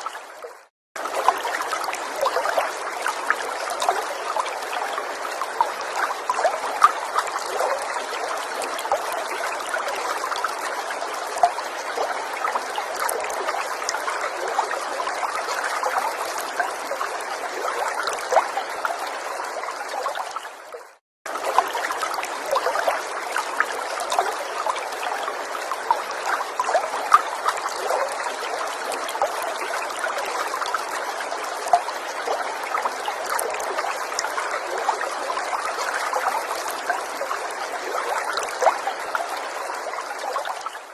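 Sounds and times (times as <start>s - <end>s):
forest stream trickling: 0.0s - 40.9s
small water splashes: 0.0s - 40.9s.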